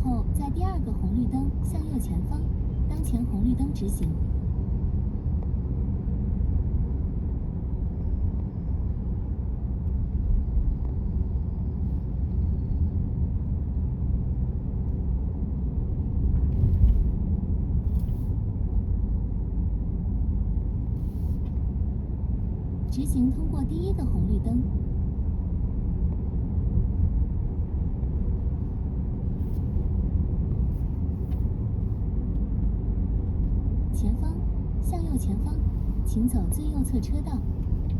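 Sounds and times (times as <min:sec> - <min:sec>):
car road rumble inside cabin: 0:00.0 - 0:37.9.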